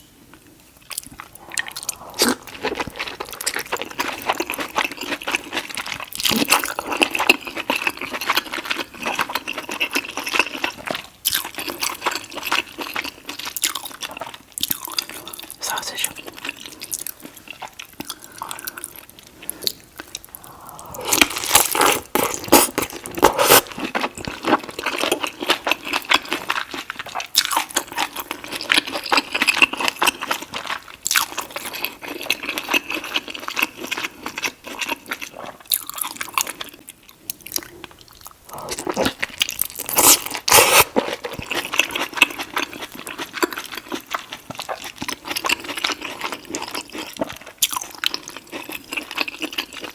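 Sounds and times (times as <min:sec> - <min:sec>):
wet crunchy chewing: 0:00.8 - 0:49.9.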